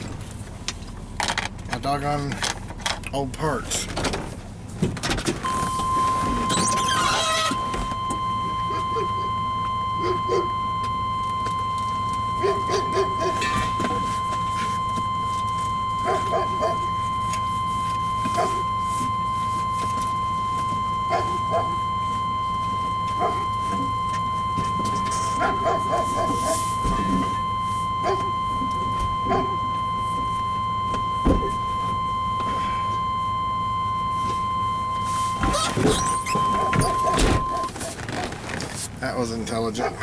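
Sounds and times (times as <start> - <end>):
engine idling hum: 0.0 - 39.8
high-pitched tone: 5.4 - 37.7.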